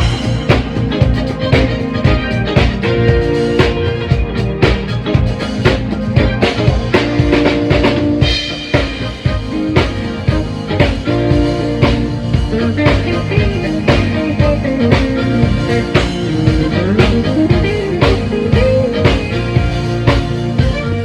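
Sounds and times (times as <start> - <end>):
drum kit strong hits: 0.0 - 20.8
rock band playing: 0.0 - 21.0.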